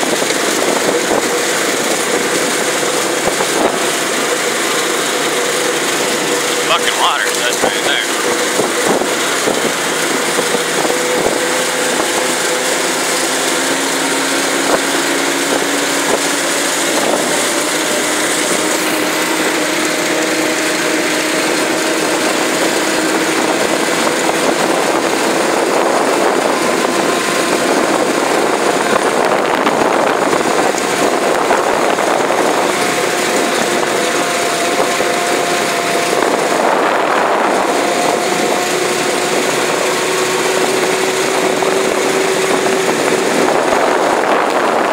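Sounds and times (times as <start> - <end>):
utility vehicle engine running: 0.0 - 44.9.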